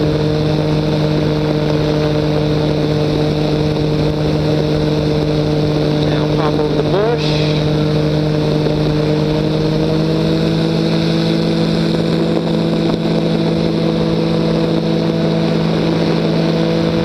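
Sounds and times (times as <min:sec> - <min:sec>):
aircraft engine drone: 0:00.0 - 0:17.0
rushing air: 0:00.0 - 0:17.0.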